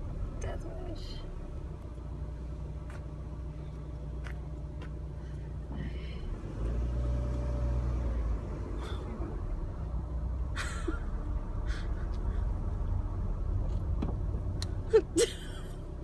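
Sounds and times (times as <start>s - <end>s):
car engine hum inside cabin: 0.0s - 16.0s.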